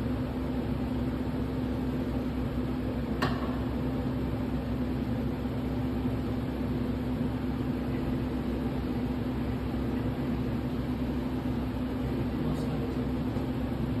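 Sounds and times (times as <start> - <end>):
low mechanical drone with hiss: 0.0 - 14.0.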